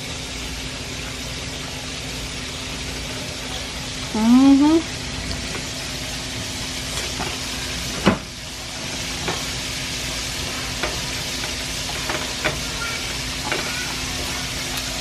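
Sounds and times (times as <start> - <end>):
eggs sizzling in a skillet: 0.0 - 15.0.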